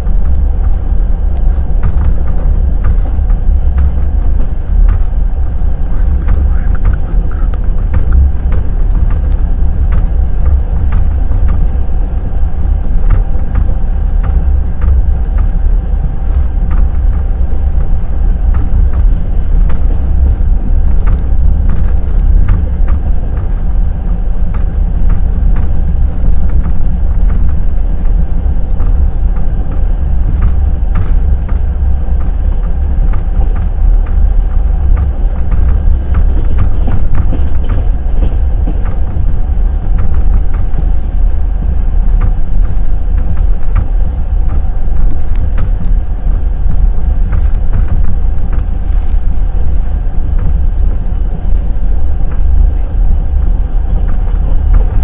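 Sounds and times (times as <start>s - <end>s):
train wheels clacking on rails: 1.4s - 55.0s.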